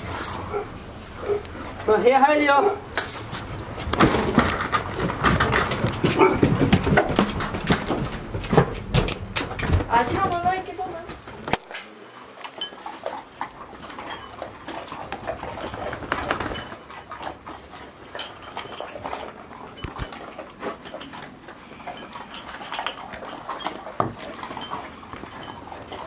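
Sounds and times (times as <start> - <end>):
puppies playing: 0.0 - 26.0.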